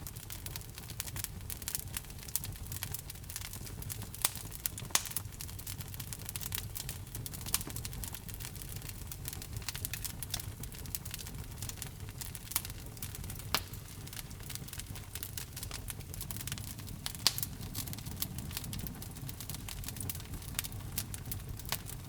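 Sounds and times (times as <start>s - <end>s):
wood fire crackling in fireplace: 0.0s - 22.0s.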